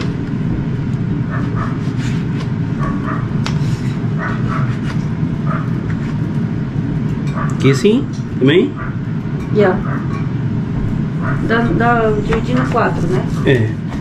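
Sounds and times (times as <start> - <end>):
air fryer fan running: 0.0 - 14.0.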